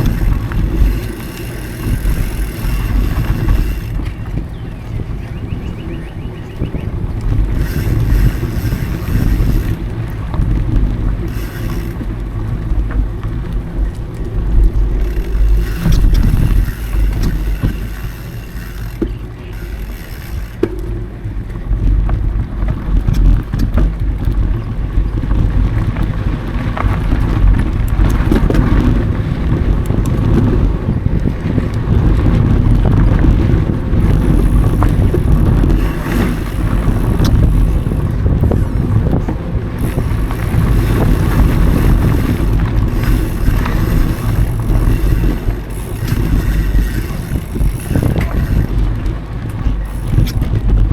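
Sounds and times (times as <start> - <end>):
bike clicks and rattles: 0.0 - 50.9
wind buffeting microphone: 0.0 - 50.9.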